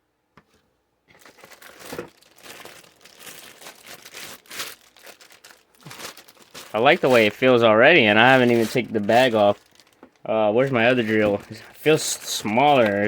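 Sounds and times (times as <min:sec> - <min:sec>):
plastic bag crinkling: 0:01.1 - 0:13.0.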